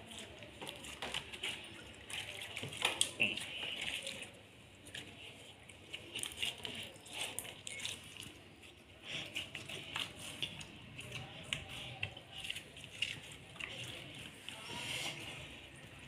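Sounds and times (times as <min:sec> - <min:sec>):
slime squishing: 0:00.0 - 0:16.0.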